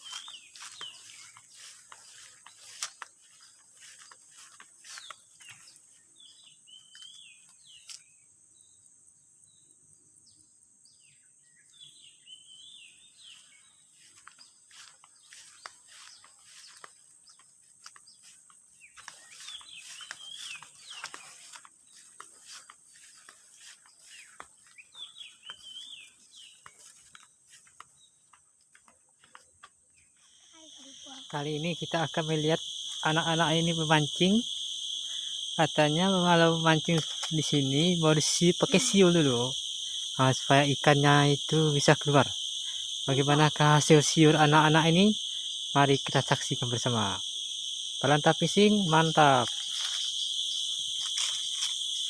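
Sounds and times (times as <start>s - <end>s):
high-pitched insect drone: 0.0s - 8.0s, 12.8s - 27.9s, 30.2s - 52.0s
birds chirping: 0.0s - 8.9s, 10.9s - 47.3s.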